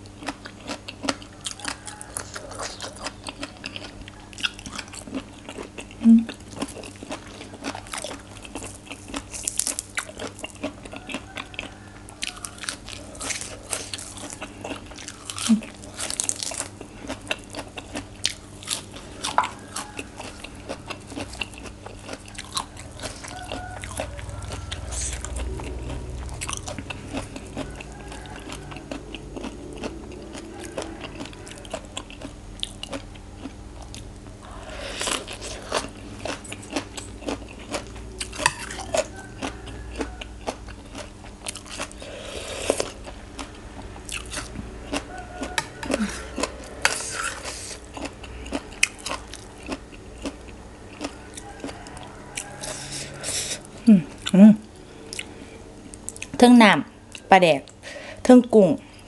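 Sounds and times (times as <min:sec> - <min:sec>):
chewing crunchy food: 0:00.0 - 0:57.8.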